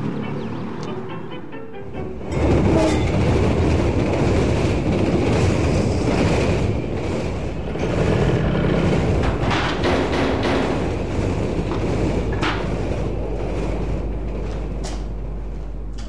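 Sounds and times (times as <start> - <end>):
train passing rumble: 0.0 - 16.0.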